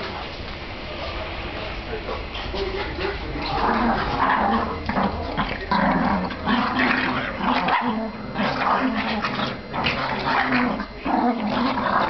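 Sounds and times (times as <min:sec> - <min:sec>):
dogs growling while play-fighting: 0:02.2 - 0:12.0.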